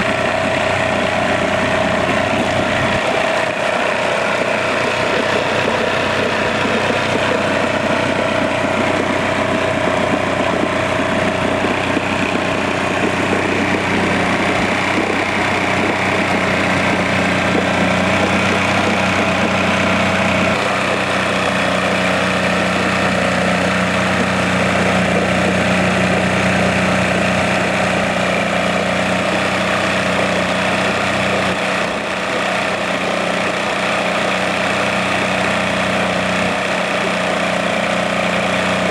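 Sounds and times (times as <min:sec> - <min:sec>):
outboard motor idling: 0:00.0 - 0:38.9.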